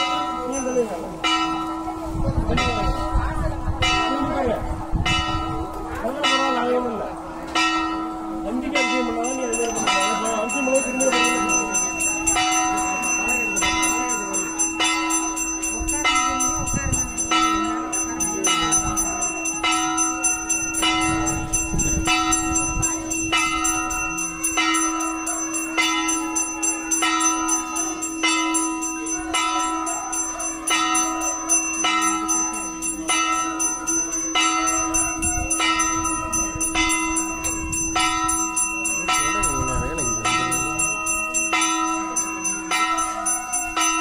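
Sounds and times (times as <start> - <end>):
temple bell ringing: 0.0 - 44.0.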